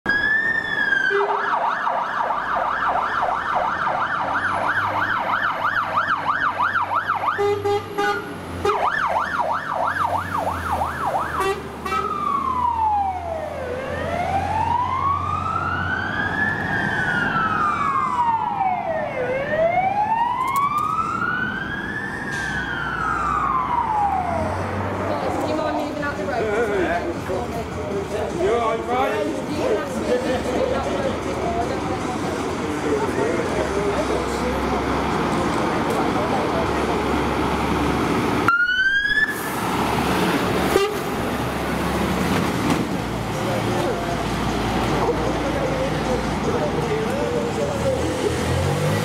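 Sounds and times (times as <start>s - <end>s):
fire engine siren yelp and wail: 0.0s - 26.1s, 29.3s - 49.0s
heavy truck engines: 0.1s - 49.0s.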